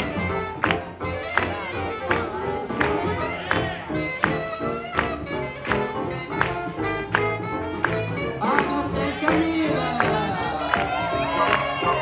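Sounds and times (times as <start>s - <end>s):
swing jazz band playing: 0.0s - 12.0s.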